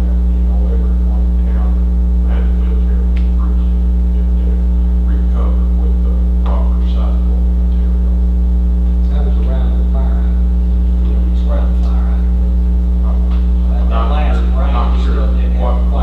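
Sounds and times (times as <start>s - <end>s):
faint indistinct voices: 0.0s - 8.2s, 8.9s - 16.0s
electrical mains hum: 0.0s - 16.0s.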